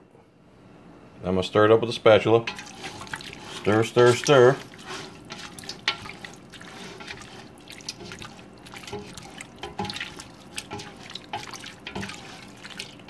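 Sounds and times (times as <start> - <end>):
spatula scraping pot: 2.4 - 13.0.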